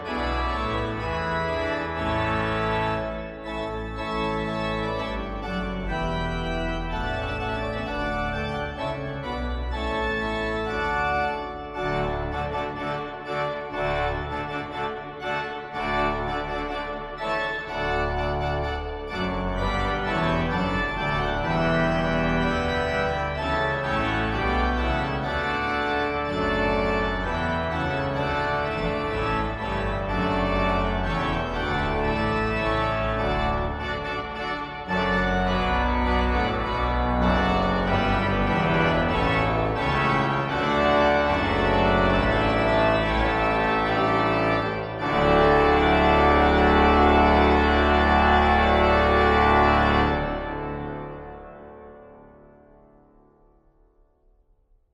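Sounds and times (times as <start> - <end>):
church organ playing chords: 0.0 - 53.8.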